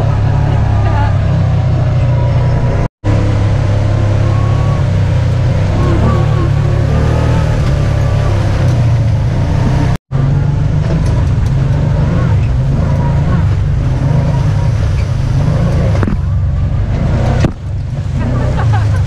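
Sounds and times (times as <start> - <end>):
vehicle engine drone: 0.0 - 19.0.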